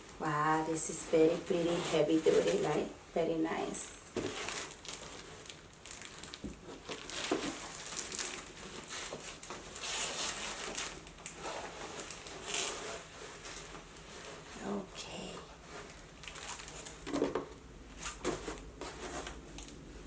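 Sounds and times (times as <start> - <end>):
packaging rustling and crinkling: 0.0 - 20.0.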